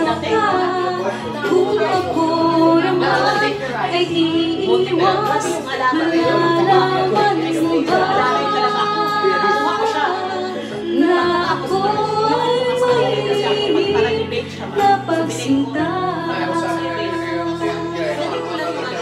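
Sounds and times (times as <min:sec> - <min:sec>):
karaoke backing track: 0:00.0 - 0:19.0
woman singing into microphone: 0:00.0 - 0:19.0.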